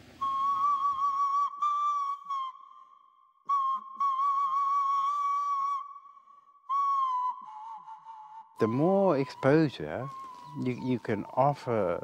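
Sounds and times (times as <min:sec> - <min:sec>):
flute-like high note: 0:00.2 - 0:11.4.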